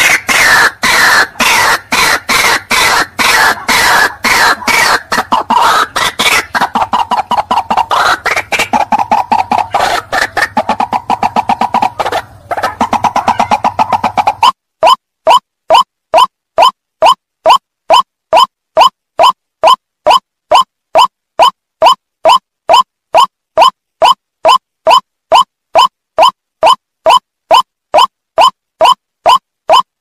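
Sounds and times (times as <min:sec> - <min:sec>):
bird harsh croaking call: 0:00.0 - 0:24.2.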